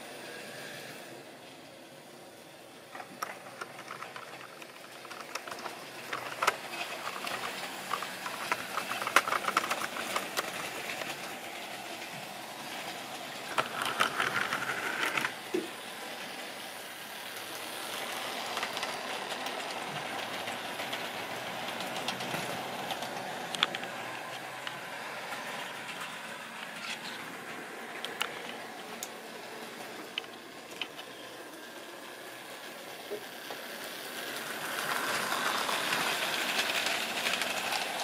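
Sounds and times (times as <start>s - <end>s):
model train motor whirring: 0.4s - 38.0s
wheels clicking over rail joints: 2.7s - 38.0s.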